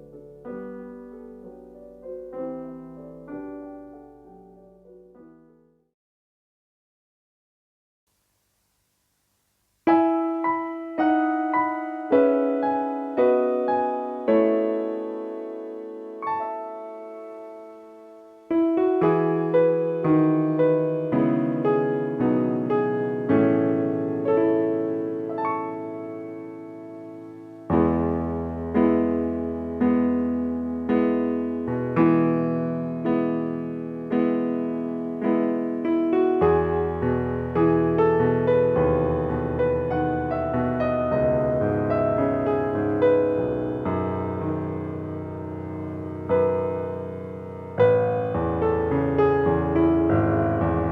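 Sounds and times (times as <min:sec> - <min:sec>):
digital piano chords: 0:00.0 - 0:05.9, 0:09.7 - 0:50.9.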